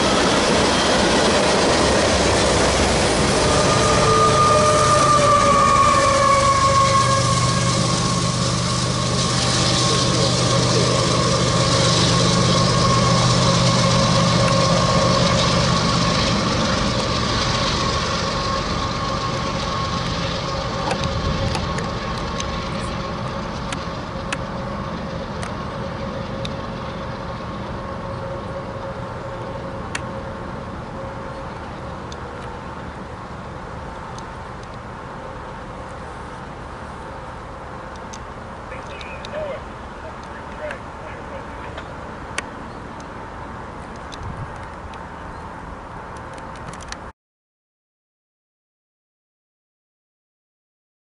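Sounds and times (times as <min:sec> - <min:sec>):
locomotive whine dropping in pitch: 0:00.0 - 0:46.4
locomotive engine rumble: 0:00.0 - 0:47.1.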